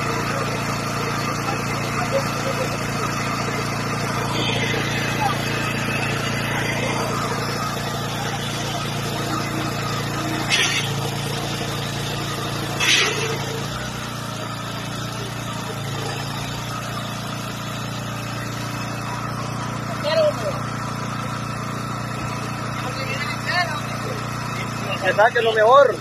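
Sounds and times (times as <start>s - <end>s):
small gasoline engine running: 0.0s - 26.0s.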